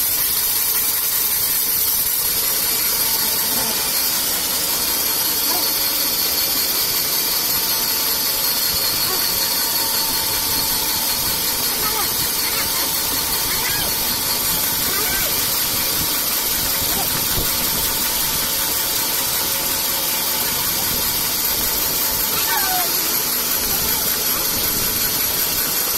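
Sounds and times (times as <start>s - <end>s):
band saw cutting wood: 0.0s - 25.9s.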